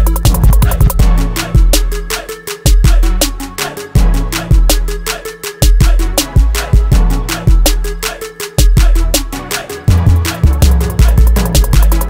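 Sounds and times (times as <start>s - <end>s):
music with drum beat and bass: 0.0s - 12.0s.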